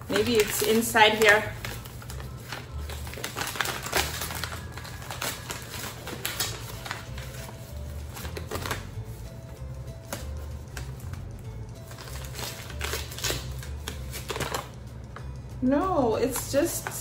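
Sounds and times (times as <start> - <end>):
paper bag crinkling and rustling: 0.0 - 9.3, 10.0 - 14.8
faint background music: 0.0 - 17.0.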